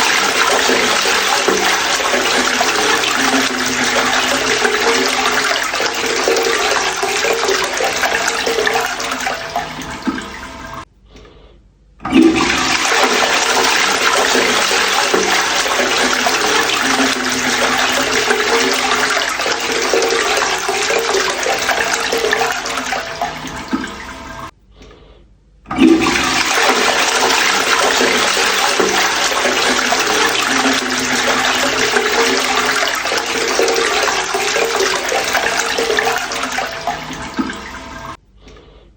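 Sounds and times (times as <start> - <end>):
water gurgling: 0.0 - 10.8, 12.0 - 24.5, 25.7 - 38.2
toilet flushing: 0.0 - 10.9, 12.0 - 24.5, 25.7 - 38.2.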